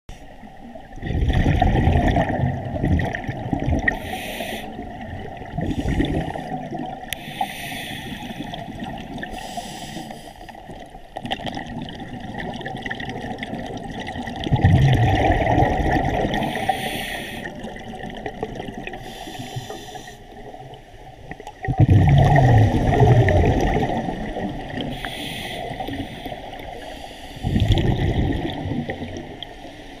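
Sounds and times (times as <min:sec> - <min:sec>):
exhaled air bubbling underwater: 0:00.1 - 0:30.0.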